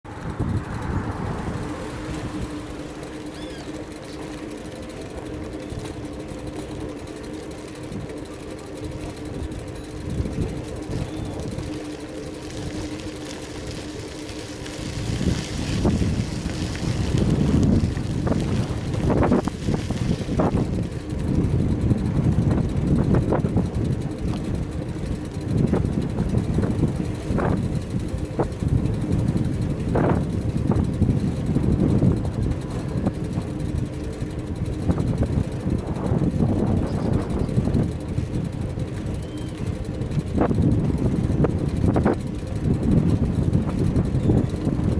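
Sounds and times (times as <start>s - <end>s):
road rumble: 0.0s - 44.9s
wind buffeting microphone: 0.0s - 44.9s
low steady hum: 0.1s - 44.9s.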